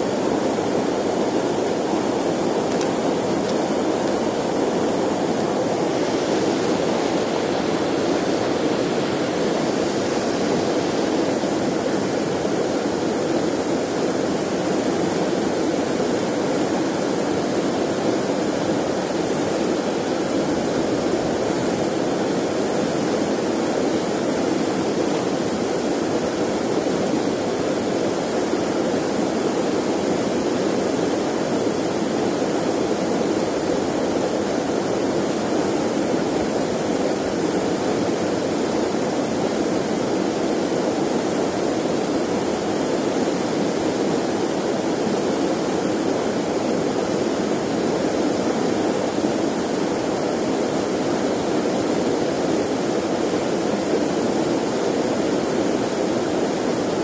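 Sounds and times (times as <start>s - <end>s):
river rushing over boulders: 0.0s - 57.0s.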